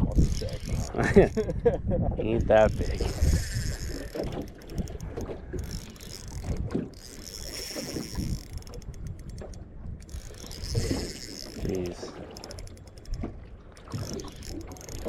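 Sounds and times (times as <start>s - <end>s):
fishing reel clicking: 0.0s - 1.7s, 2.4s - 15.0s
wind on microphone: 0.0s - 15.0s.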